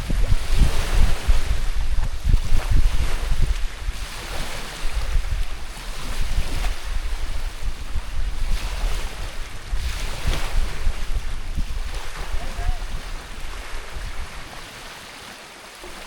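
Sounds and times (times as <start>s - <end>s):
wind buffeting microphone: 0.0s - 15.0s
small waves washing onto shore: 0.0s - 16.0s.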